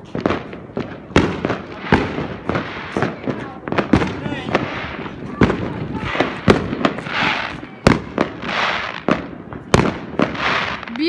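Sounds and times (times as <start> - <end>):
fireworks bangs: 0.0 - 11.0
hissing crackles: 0.0 - 11.0.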